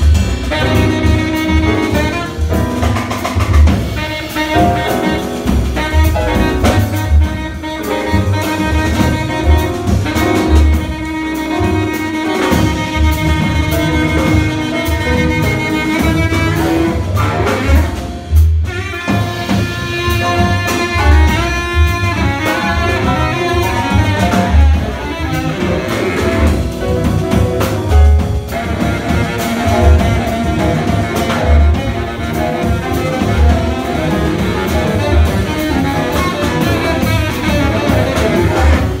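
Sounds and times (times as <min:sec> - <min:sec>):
baritone saxophone: 0:00.0 - 0:39.0
double bass: 0:00.0 - 0:39.0
drum kit: 0:00.0 - 0:39.0
piano: 0:00.0 - 0:39.0.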